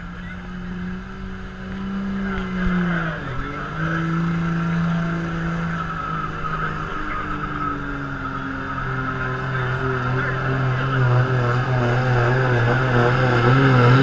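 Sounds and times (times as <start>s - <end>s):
diesel pickup engine at full throttle: 0.0s - 14.0s.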